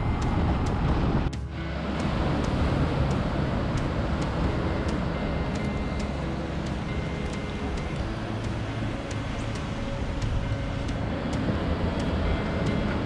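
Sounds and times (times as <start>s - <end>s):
faint ticks: 0.0s - 13.0s
vehicle engine and road noise: 0.0s - 13.0s.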